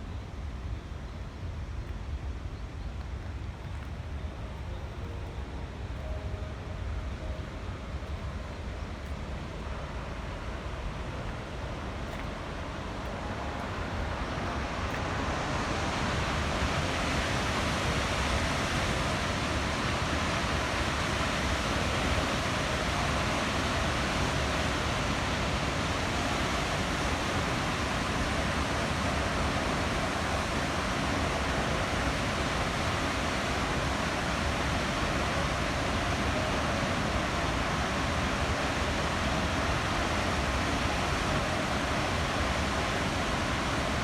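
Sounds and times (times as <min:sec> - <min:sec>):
water rushing from dam: 0:05.7 - 0:44.0.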